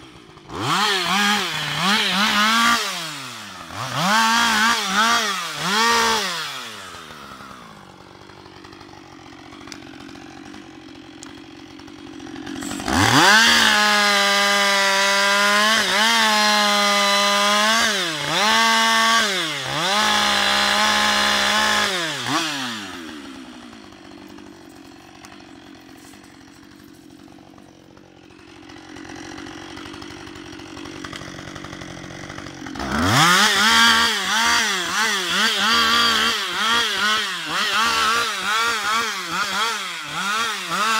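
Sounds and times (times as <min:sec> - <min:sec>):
chainsaw cutting log: 0:00.0 - 0:40.9
chainsaw revving and idling: 0:00.0 - 0:40.9.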